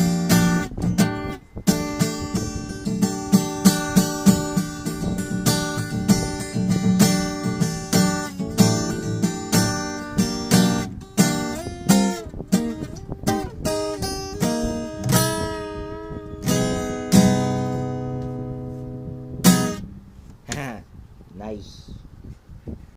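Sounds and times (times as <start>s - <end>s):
acoustic guitar playing: 0.0s - 20.3s.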